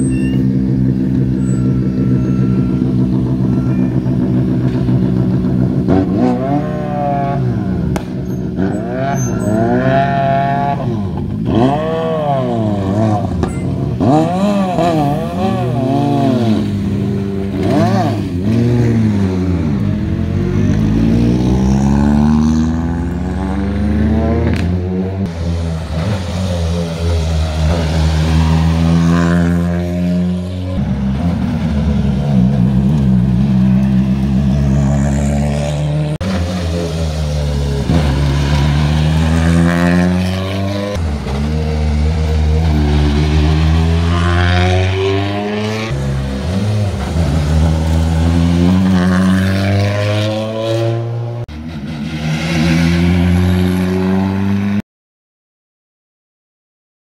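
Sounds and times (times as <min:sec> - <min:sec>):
rally car engines idling and revving: 0:00.0 - 0:54.8.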